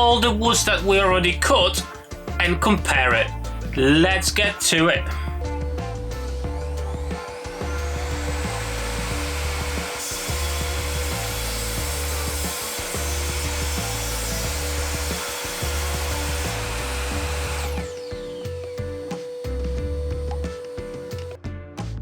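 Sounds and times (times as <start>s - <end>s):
mitre saw cutting wood: 0.0s - 21.4s
saw motor winding down: 0.0s - 21.4s
background music with steady beat: 0.0s - 22.0s.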